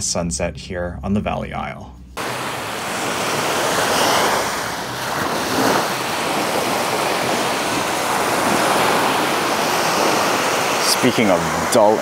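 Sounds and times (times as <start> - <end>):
small waves on sandy beach: 2.2 - 12.0
wind on microphone: 2.2 - 12.0.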